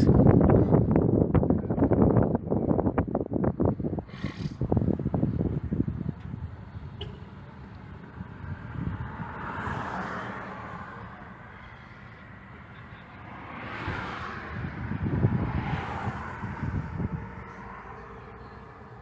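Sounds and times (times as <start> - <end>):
vehicles passing by: 0.0 - 19.0.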